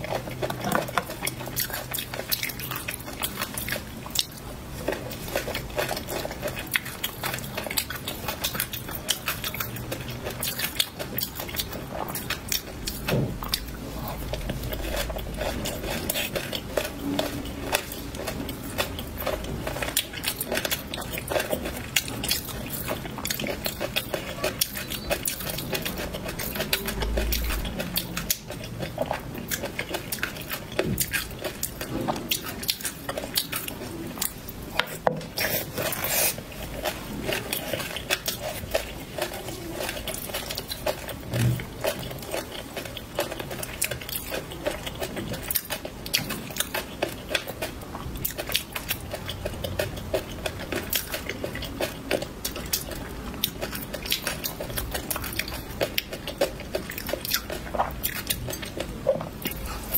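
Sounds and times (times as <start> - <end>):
chewing and crunching peanuts: 0.0 - 59.9.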